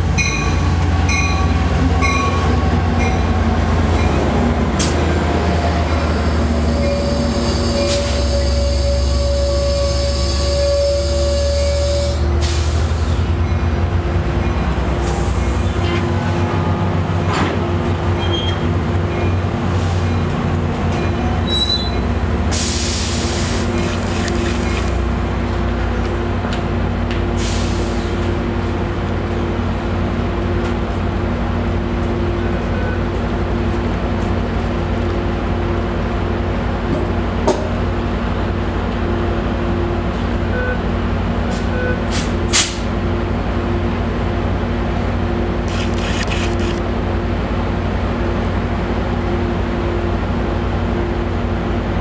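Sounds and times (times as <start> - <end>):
train equipment humming: 0.0 - 52.0.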